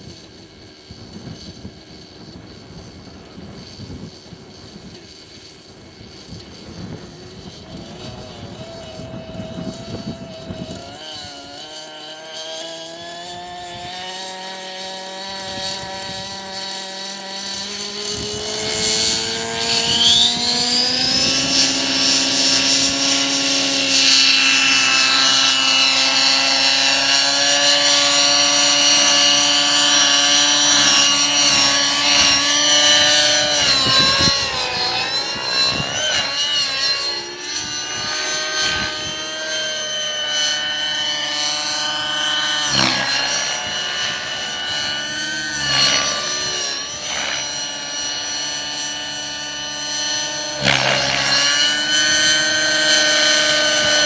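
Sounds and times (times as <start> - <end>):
high rotor whine: 0.0 - 54.0
model helicopter engine spooling up: 0.0 - 54.0.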